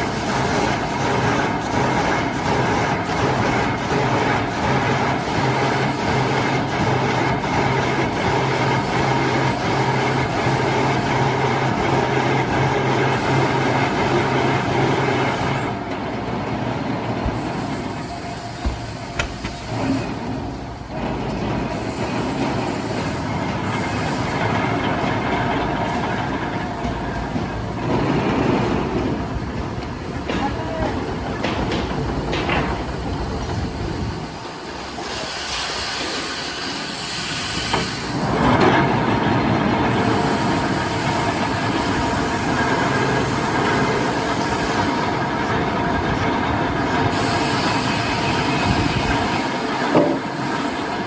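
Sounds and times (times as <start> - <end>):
heavy machinery humming: 0.0 - 51.0.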